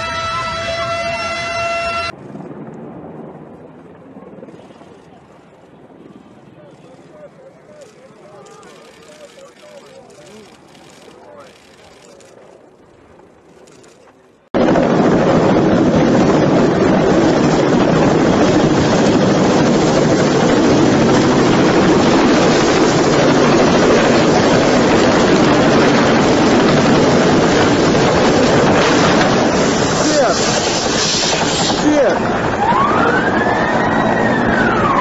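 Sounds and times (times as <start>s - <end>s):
helicopter rotor noise: 3.4s - 35.0s.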